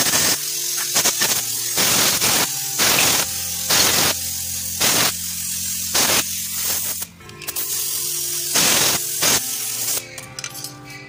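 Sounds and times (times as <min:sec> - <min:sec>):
spray can hissing blasts: 0:00.0 - 0:10.1
background music: 0:00.0 - 0:11.0.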